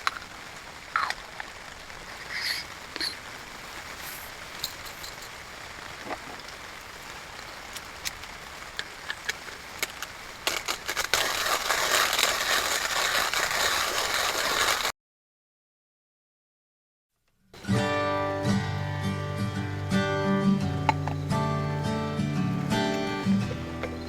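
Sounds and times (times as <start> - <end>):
campfire crackling and popping: 0.0 - 14.9, 17.6 - 24.0.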